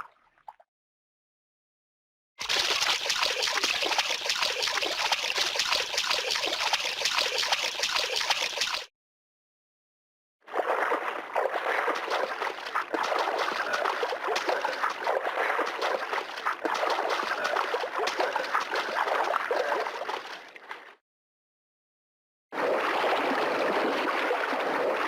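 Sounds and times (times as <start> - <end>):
water splashing and trickling: 0.0 - 0.7, 2.4 - 8.9, 10.5 - 21.0, 22.6 - 25.0.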